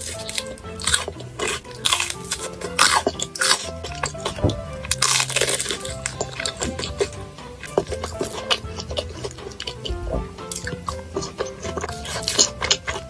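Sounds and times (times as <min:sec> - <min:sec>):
background music: 0:00.0 - 0:13.0
chewing: 0:00.0 - 0:13.0
crunching bites: 0:00.0 - 0:13.0.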